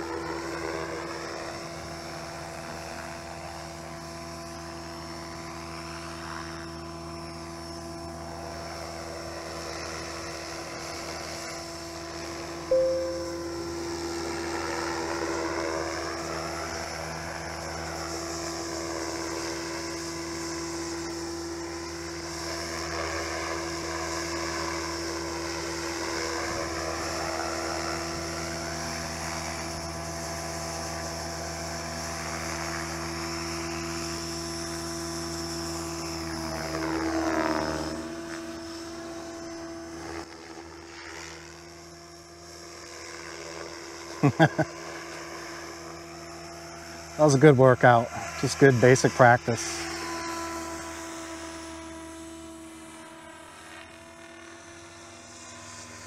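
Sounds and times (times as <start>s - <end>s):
model helicopter rotor whine: 0.0s - 56.0s.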